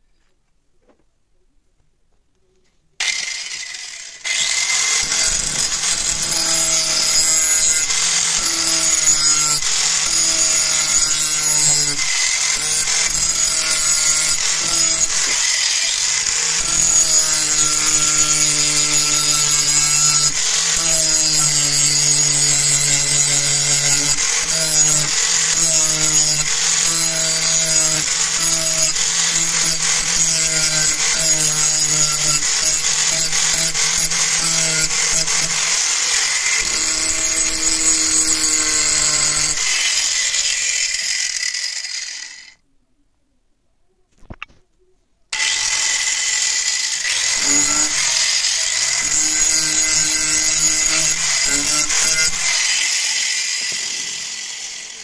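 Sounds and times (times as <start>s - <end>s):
angle grinder grinding steel: 3.0s - 42.6s, 45.3s - 55.0s.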